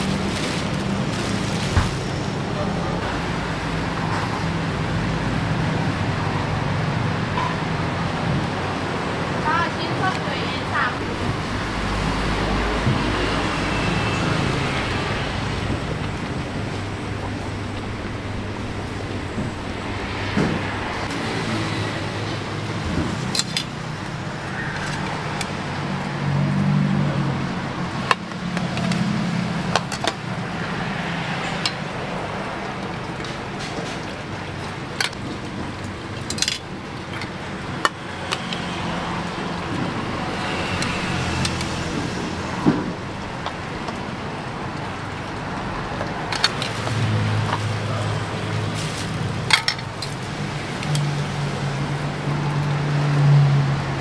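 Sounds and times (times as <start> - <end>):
vehicle engines passing: 0.0 - 54.0.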